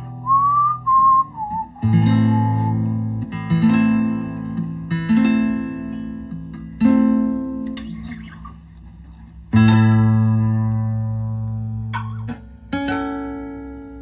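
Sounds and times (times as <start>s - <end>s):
acoustic guitar chords strummed: 0.0s - 14.0s.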